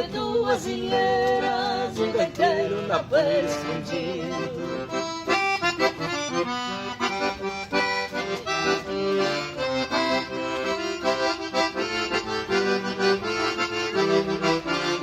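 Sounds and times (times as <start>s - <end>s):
accordion folk melody: 0.0s - 15.0s.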